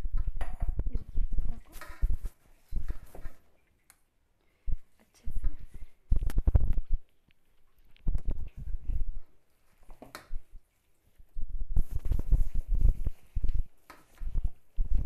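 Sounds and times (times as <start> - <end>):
hand mixing wet batter: 0.0 - 15.0.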